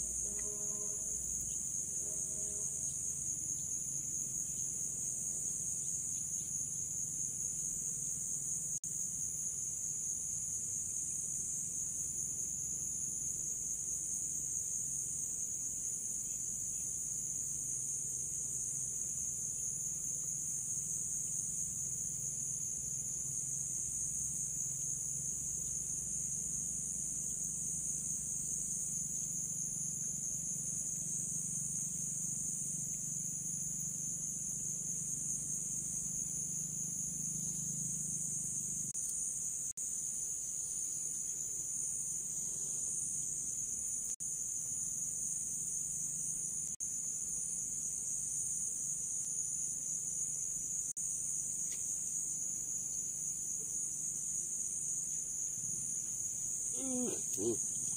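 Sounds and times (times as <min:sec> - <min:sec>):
insects chirring: 0:00.0 - 0:57.9.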